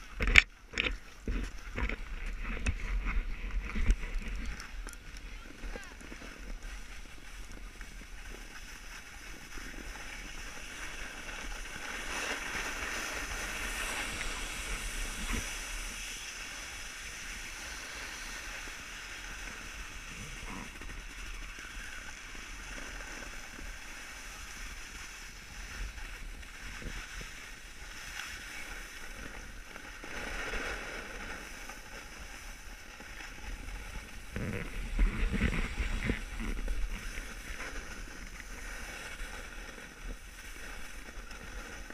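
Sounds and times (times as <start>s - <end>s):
skis sliding over snow: 0.0s - 41.9s.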